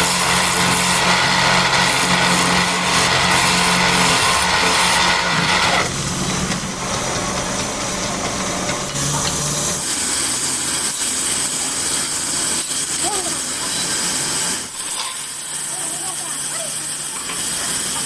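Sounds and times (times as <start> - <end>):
woodworking power tool humming: 0.0 - 18.0.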